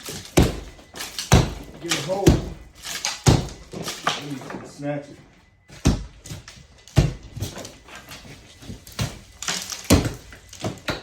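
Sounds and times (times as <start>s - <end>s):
plaster crumbling off wall: 0.0s - 4.7s, 5.7s - 11.0s.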